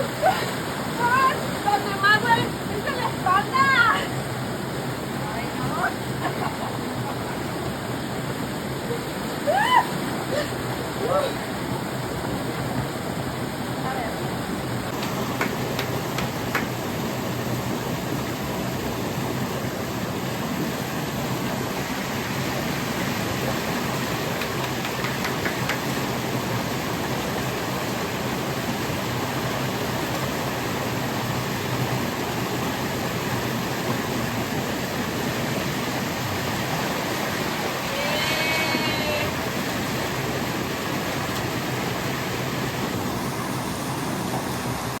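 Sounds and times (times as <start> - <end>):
rushing water: 0.0 - 45.0.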